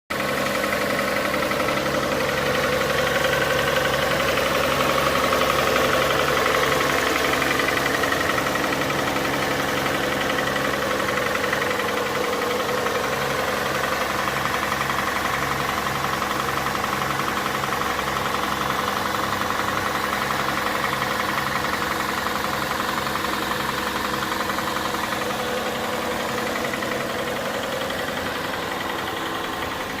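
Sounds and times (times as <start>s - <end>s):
car engine knocking: 0.1s - 30.0s.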